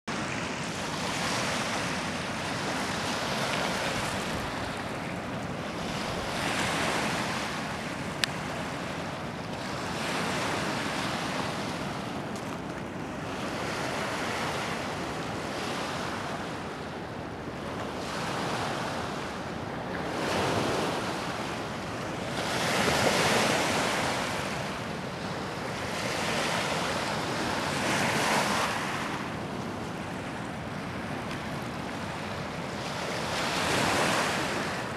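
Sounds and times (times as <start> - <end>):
waves washing in: 0.1 - 34.9.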